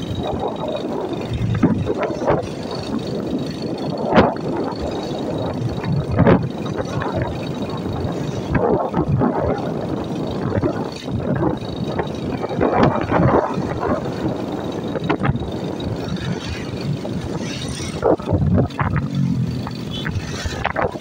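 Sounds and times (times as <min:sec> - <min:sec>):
engine and road rumble: 0:00.0 - 0:21.0
road traffic noise: 0:00.0 - 0:21.0.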